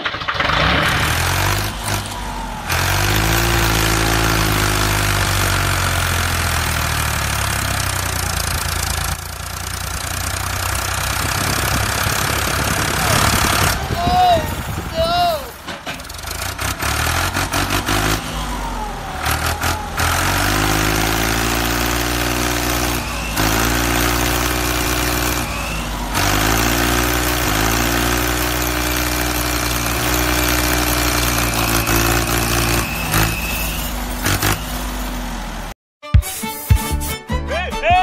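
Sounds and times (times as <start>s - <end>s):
toy tractor engine running: 0.0s - 15.5s, 19.3s - 34.8s.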